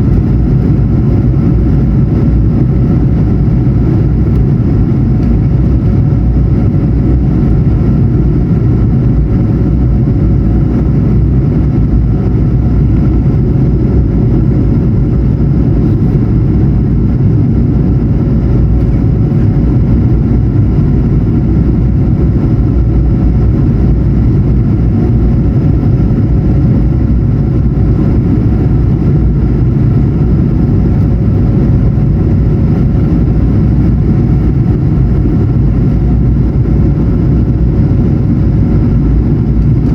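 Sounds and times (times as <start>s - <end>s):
airplane cabin rumble: 0.0s - 39.9s
faint steady hum: 0.0s - 39.9s.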